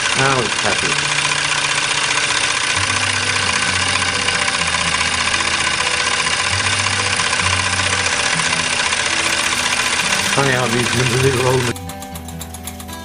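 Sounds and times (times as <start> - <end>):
toy steam engine clattering: 0.0 - 13.0.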